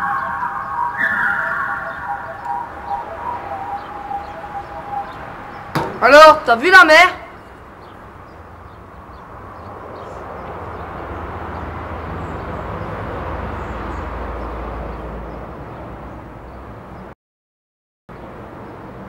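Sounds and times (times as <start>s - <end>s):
vehicle passing: 0.0s - 17.1s.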